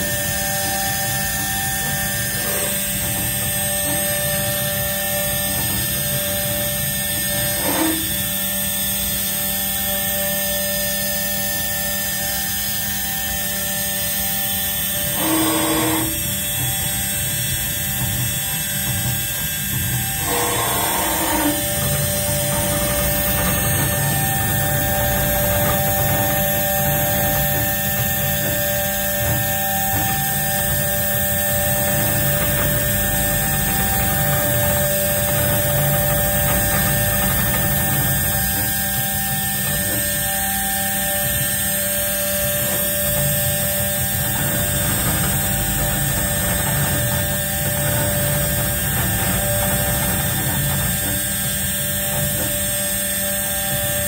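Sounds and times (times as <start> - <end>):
engraving machine whine: 0.0 - 54.0
low machine hum: 0.0 - 54.0.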